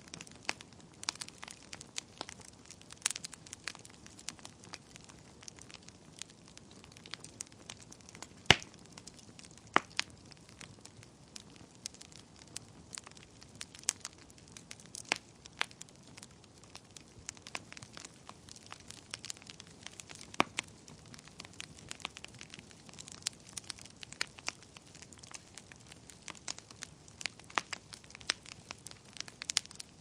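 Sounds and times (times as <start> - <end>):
wood fire crackling: 0.0 - 30.0
loud fire pops: 2.2 - 29.8.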